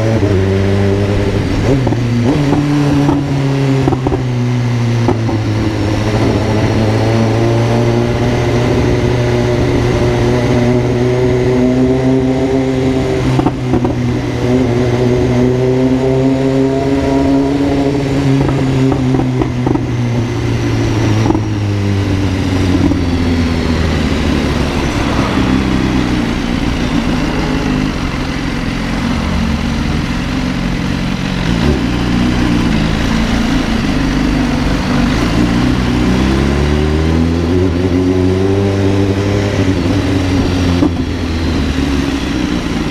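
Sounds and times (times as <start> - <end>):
vehicle exhaust droning: 0.0 - 42.9.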